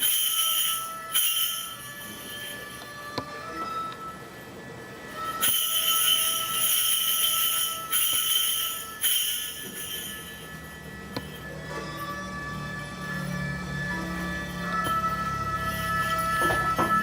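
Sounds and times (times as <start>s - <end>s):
bell-tree jingling: 0.0s - 17.0s.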